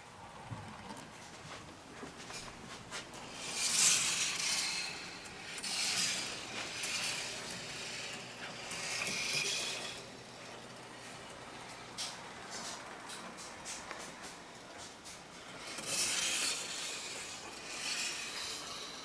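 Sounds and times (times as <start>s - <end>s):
marble rolling along track: 3.1s - 19.0s.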